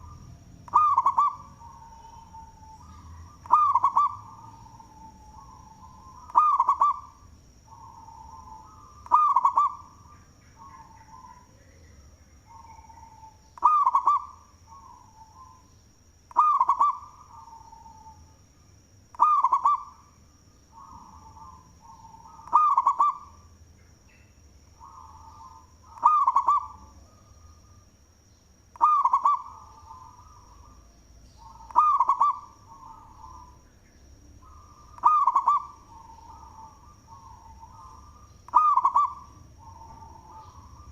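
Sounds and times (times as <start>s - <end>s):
dove cooing: 0.0s - 15.6s, 16.3s - 18.3s, 19.1s - 20.0s, 20.7s - 23.4s, 24.8s - 27.8s, 28.8s - 33.6s, 34.4s - 40.9s.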